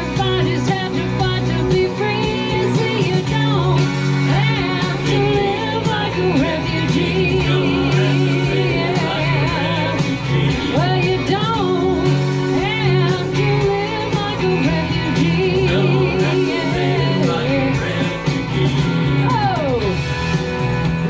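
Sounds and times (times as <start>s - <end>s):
person singing: 0.0s - 20.0s
live band playing pop-rock: 0.0s - 21.0s.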